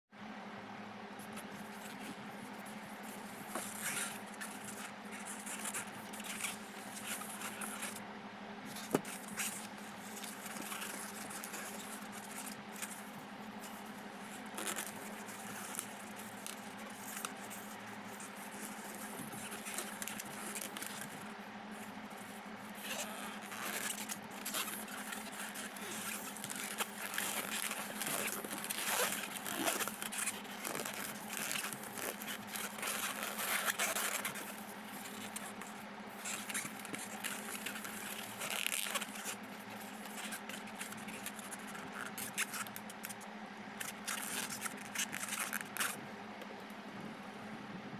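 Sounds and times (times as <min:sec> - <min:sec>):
steady low hum: 0:00.2 - 0:47.9
rubber balloon rubbing and rustling: 0:01.2 - 0:08.0, 0:08.7 - 0:43.2, 0:43.8 - 0:46.0.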